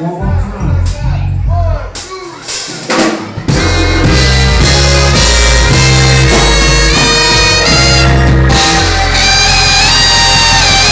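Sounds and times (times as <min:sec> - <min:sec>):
live band playing: 0:00.0 - 0:10.9.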